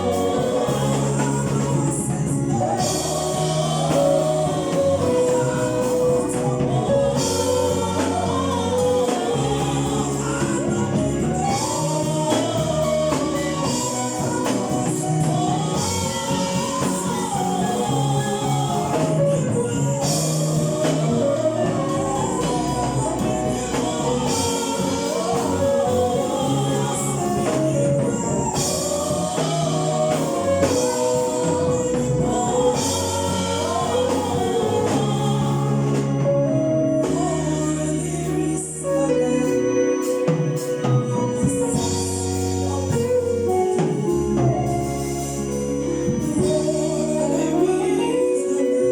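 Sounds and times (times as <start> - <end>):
bass line: 0.0 - 48.9
choir singing gospel: 0.0 - 48.9
instrumental accompaniment: 0.0 - 48.9.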